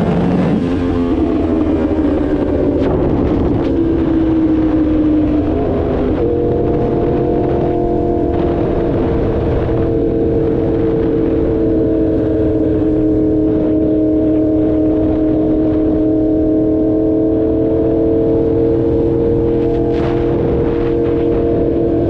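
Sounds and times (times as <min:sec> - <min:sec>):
motorcycle engine cruising: 0:00.0 - 0:22.0
wind rumble on microphone: 0:00.0 - 0:22.0.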